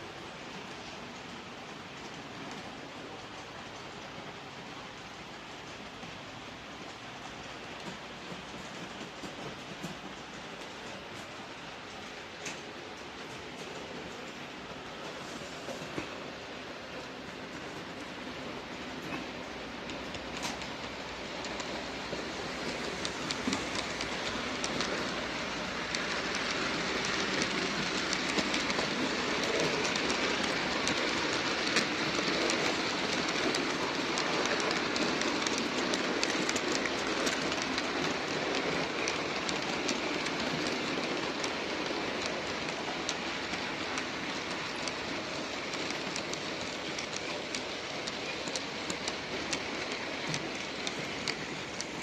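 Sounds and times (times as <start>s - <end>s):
freight train rumble: 0.0s - 52.0s
train wheels clicking over rail joints: 0.1s - 52.0s.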